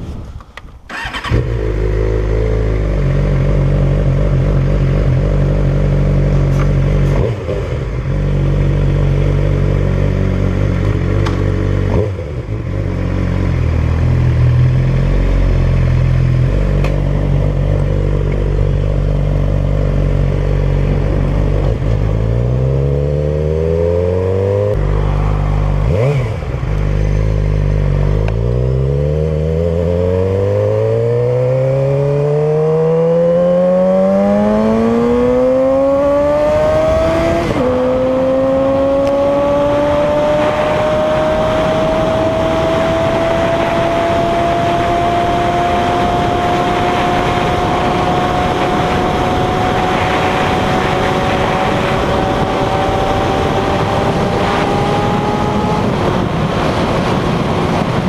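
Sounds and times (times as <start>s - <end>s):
motorcycle engine idling and accelerating: 0.0s - 58.0s.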